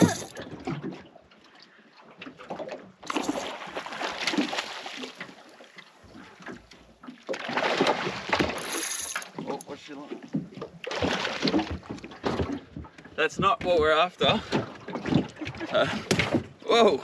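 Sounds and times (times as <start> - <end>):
water splashing against boat hull: 0.0 - 16.6.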